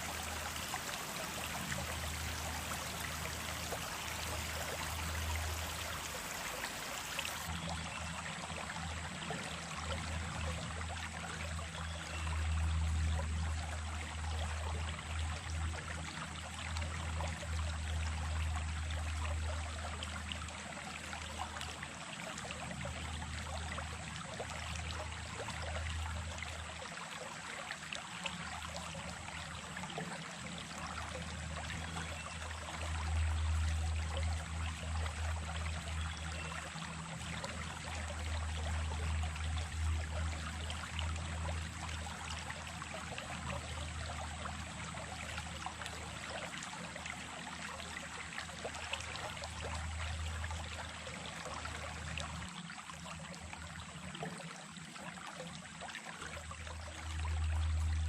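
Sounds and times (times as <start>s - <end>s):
brook running: 0.0s - 58.0s.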